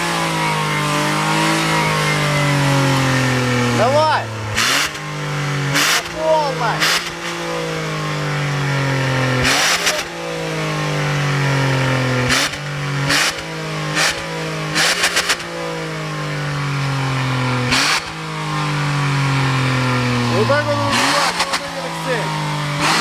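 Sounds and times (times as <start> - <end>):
engine exhaust revving hard: 0.0 - 23.0
exhaust crack: 0.0 - 23.0.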